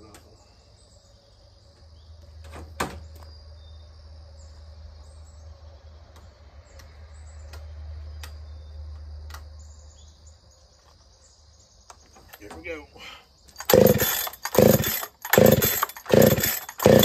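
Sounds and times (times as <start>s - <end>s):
insects chirring: 0.1s - 17.0s.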